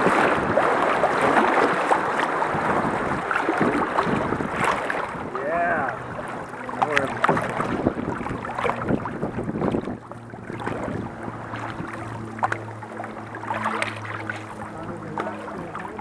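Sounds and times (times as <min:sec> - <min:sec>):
paddle strokes: 0:00.0 - 0:16.0
steady low hum: 0:00.0 - 0:16.0
water rushing and splashing: 0:00.0 - 0:16.0.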